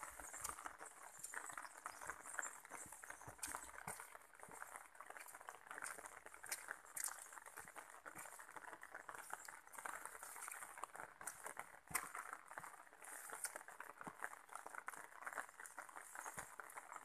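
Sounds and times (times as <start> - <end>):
footsteps on wet dirt path: 0.0 - 14.6.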